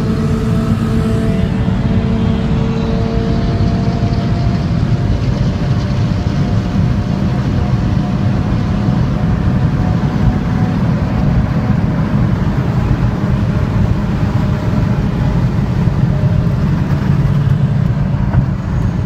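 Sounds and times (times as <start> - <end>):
car engine drone: 0.0 - 19.0
loud wind noise: 0.0 - 19.0.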